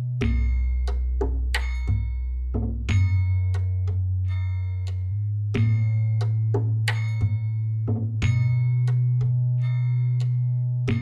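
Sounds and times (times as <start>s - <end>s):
bass line: 0.0s - 11.0s
mallet percussion notes: 0.2s - 11.0s.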